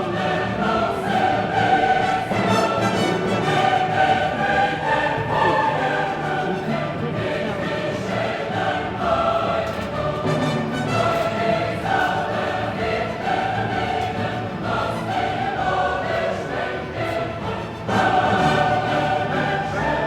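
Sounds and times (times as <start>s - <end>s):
choir holding long notes: 0.0s - 20.0s
orchestral backing: 0.0s - 20.0s.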